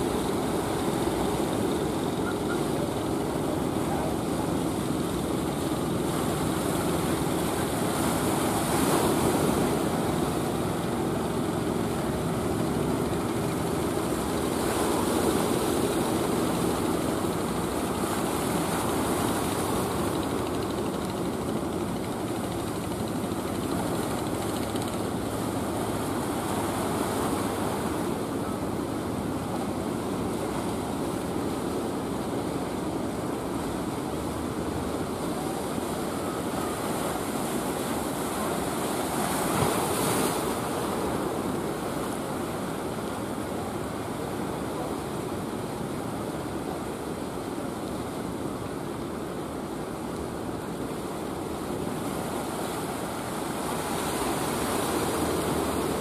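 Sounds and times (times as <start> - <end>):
sea waves: 0.0 - 56.0.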